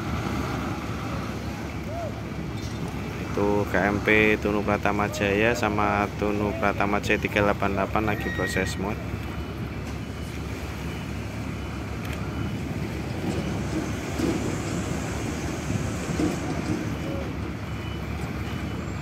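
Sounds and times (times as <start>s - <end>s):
truck engines rumbling: 0.0s - 19.0s.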